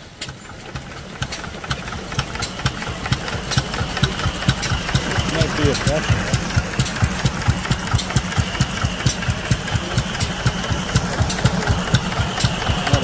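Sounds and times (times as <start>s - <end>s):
stationary engine thudding: 0.0s - 13.0s.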